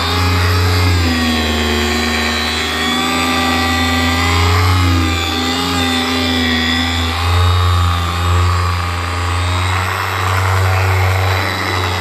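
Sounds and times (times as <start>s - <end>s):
orbital polisher motor whine: 0.0s - 12.0s.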